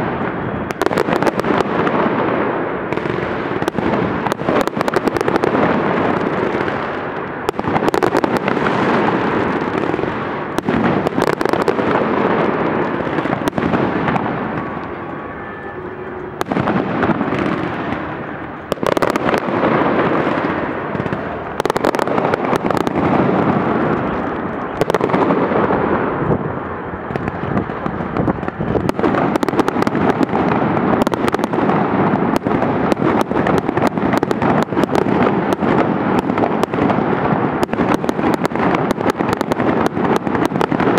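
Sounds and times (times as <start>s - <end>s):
sharp firework bangs: 0.0s - 15.6s, 16.4s - 40.9s
fireworks bursting and crackling: 0.0s - 40.9s.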